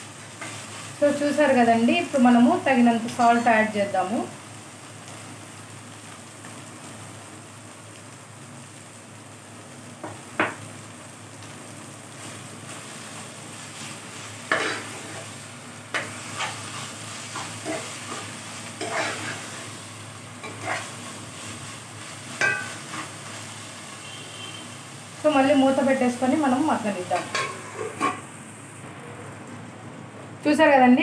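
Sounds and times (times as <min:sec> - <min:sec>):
greens sizzling: 0:00.0 - 0:31.0.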